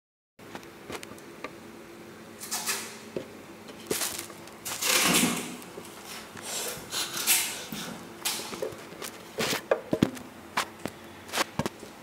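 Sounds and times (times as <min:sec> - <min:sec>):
faint steady hum: 0:00.4 - 0:12.0.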